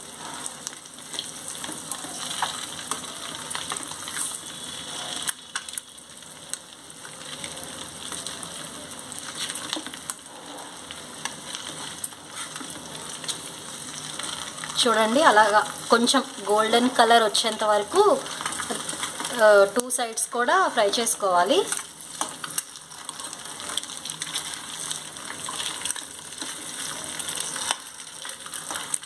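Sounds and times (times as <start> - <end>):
eggs sizzling in hot oil: 0.0 - 29.0.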